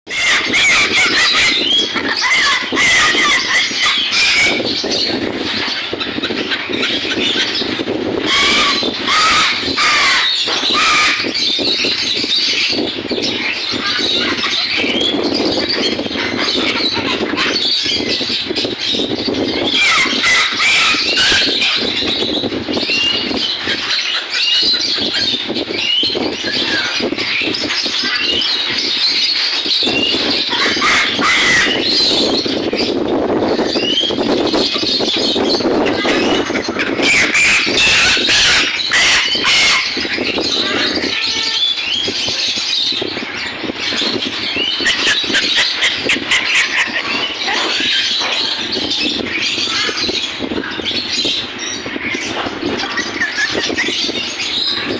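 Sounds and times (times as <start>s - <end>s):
caged birds squawking and chirping: 0.1s - 54.9s.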